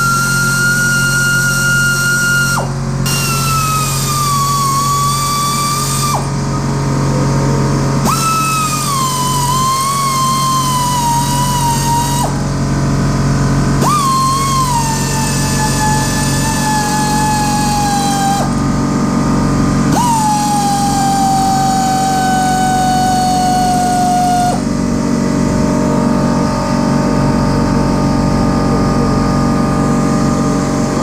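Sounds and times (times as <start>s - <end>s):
power tool motor whining: 0.0s - 27.4s.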